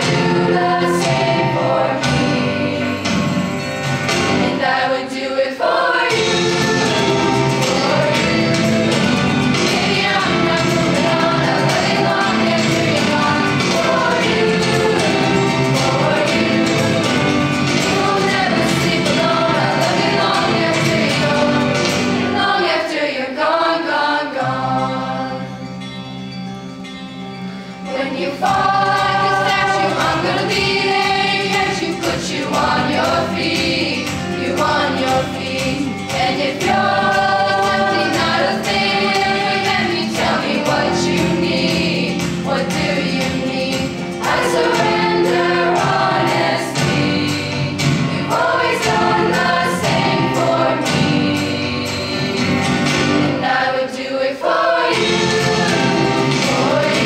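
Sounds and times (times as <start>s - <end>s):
mixed choir singing pop song: 0.0s - 25.7s, 27.8s - 57.0s.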